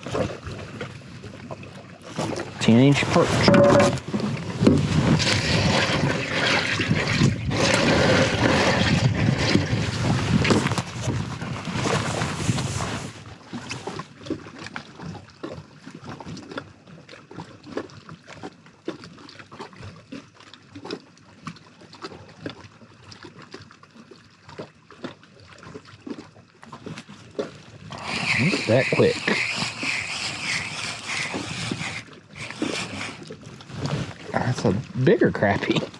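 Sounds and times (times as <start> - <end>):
water splashing and sloshing: 0.0 - 35.9.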